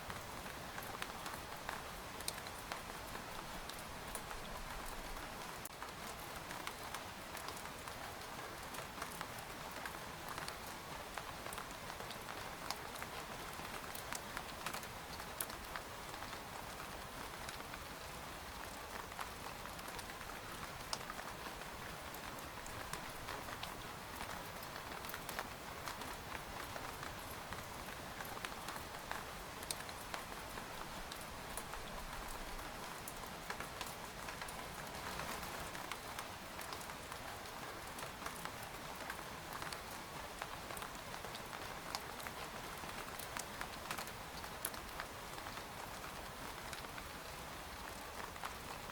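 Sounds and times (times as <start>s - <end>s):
rain hissing on a tent: 0.0s - 48.9s
raindrops tapping a tent: 0.0s - 48.9s.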